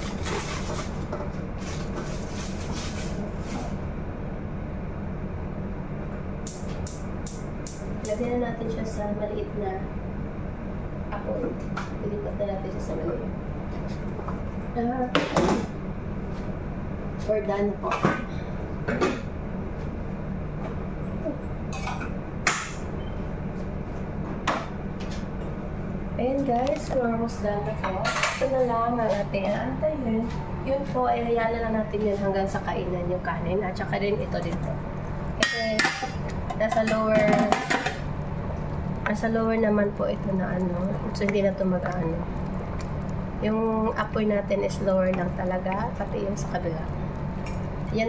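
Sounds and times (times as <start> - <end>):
gas burners rumbling: 0.0 - 48.0.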